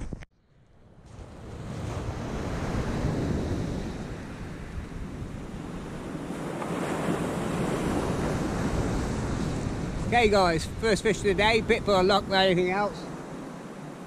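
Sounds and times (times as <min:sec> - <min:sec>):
surf washing onto beach: 0:01.0 - 0:14.0
wind buffeting microphone: 0:01.0 - 0:14.0.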